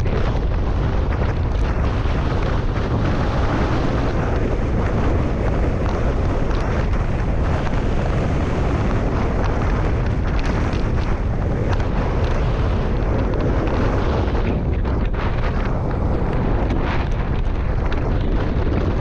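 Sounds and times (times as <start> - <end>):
tyre and road noise ticks: 0.0 - 19.0
wind buffeting microphone: 0.0 - 19.0.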